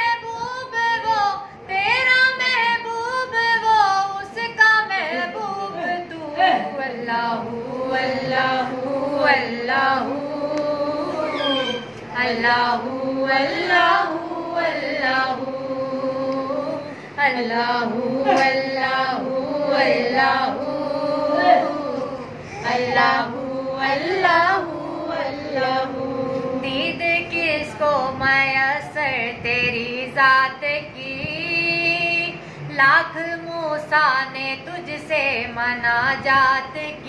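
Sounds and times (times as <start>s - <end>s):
woman singing a hymn: 0.0s - 37.0s.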